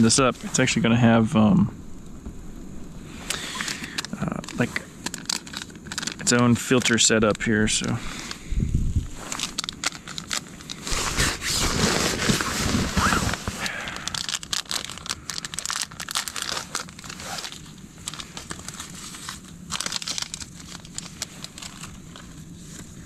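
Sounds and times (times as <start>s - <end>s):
foil wrapper crinkling: 3.3s - 8.4s, 9.1s - 23.0s.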